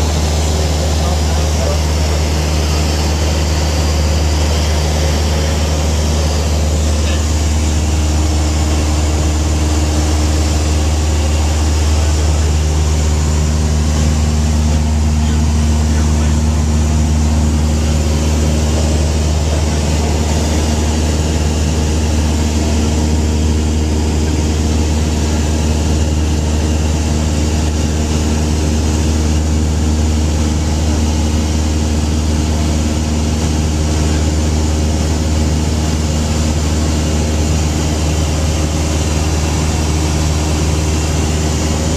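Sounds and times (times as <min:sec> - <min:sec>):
propeller airplane engine humming: 0:00.0 - 0:41.9.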